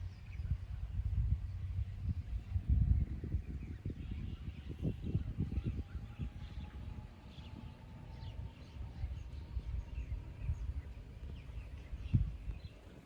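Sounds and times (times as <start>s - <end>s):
low rumbling outdoor noise: 0.0s - 13.0s.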